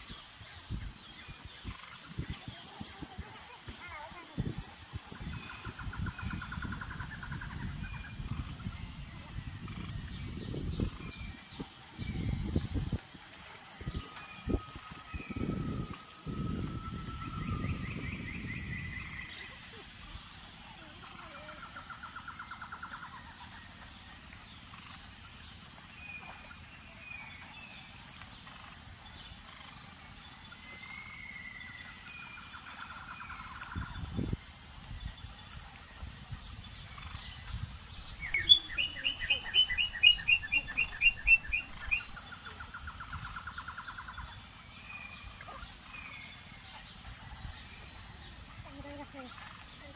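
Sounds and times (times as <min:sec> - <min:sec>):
small birds chirping and trilling: 0:00.0 - 0:49.9.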